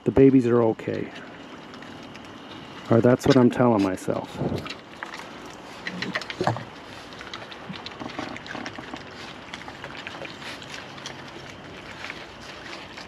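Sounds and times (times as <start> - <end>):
raccoons crunching dry cereal: 0.2 - 13.0.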